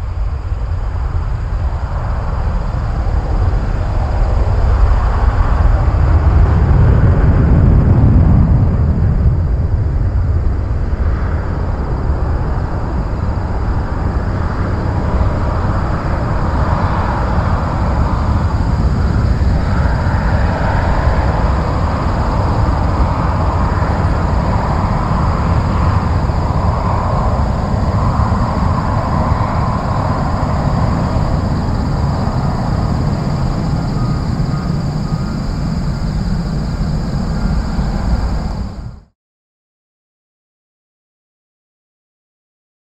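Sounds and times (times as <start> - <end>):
jet engines low rumble: 0.0 - 39.2.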